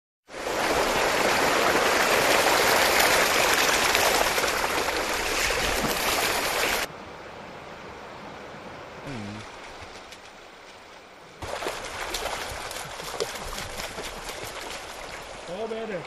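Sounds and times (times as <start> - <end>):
floodwater rushing: 0.3 - 6.9, 8.8 - 16.0.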